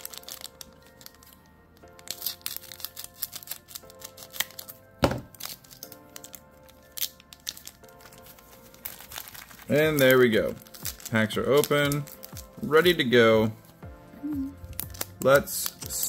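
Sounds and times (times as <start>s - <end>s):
wrappers crinkling: 0.0s - 13.8s, 14.4s - 16.0s.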